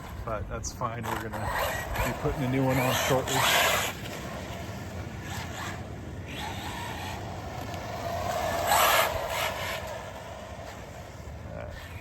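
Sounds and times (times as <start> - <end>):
tires scrubbing: 0.0 - 12.0
tire rubbing on body: 0.9 - 12.0
electric motor whining: 1.1 - 12.0.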